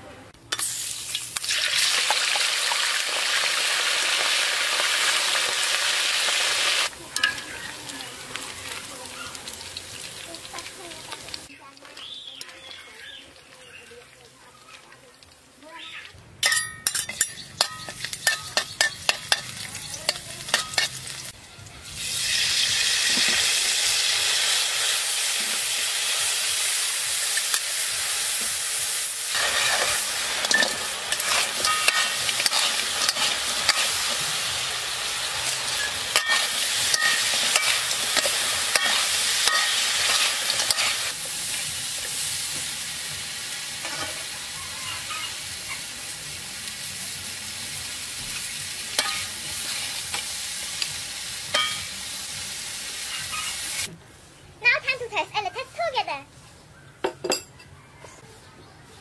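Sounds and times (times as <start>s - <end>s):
chicken sizzling in hot oil: 0.5s - 53.9s.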